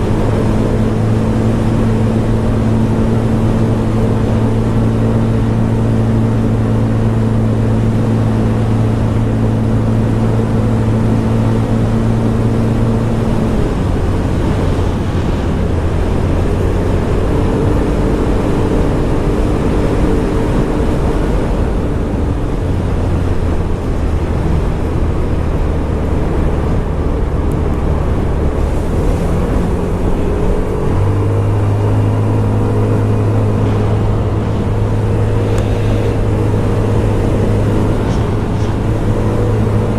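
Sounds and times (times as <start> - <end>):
road noise: 0.0 - 39.9
scooter engine running: 0.0 - 39.9
wind: 0.0 - 39.9.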